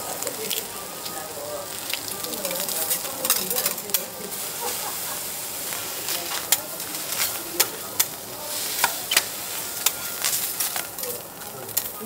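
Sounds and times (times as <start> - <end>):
prawn sizzling on a griddle: 0.0 - 12.0.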